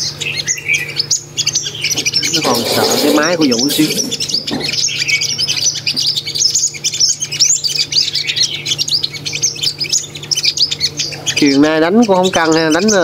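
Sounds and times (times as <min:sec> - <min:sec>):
birds chirping high: 0:00.0 - 0:13.0.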